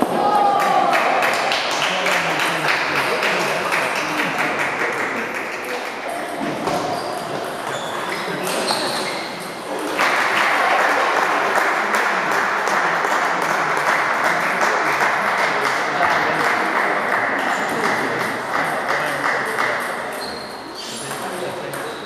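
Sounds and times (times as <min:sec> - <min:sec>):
sports hall din: 0:00.0 - 0:22.0.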